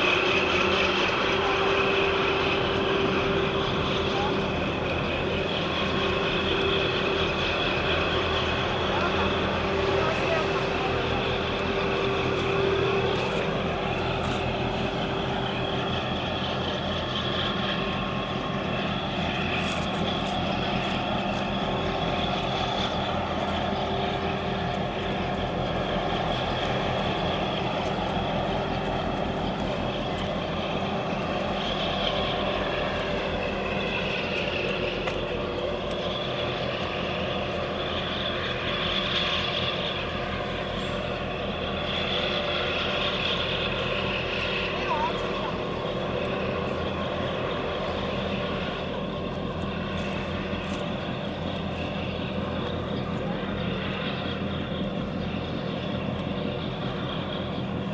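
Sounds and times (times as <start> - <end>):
marine diesel engines droning: 0.0 - 57.9.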